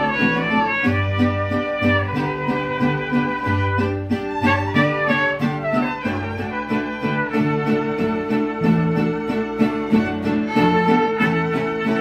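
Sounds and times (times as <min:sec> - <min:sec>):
acoustic guitar strumming: 0:00.0 - 0:12.0
trumpet melody: 0:00.0 - 0:12.0
violin melody: 0:00.0 - 0:12.0.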